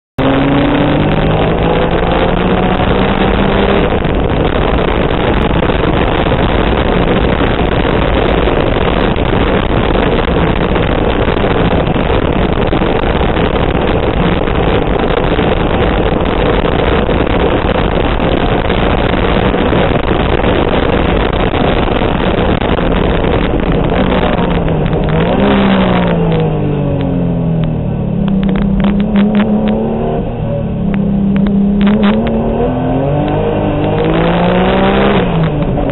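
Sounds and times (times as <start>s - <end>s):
car engine at full throttle: 0.2s - 35.9s.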